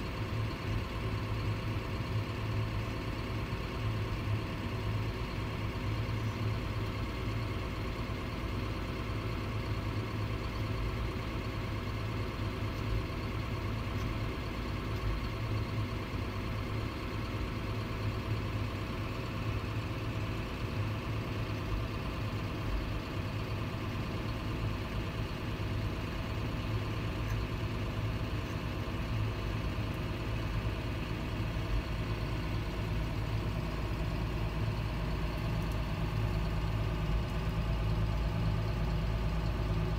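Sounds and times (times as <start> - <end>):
motor humming with faint pulsing: 0.0 - 39.9.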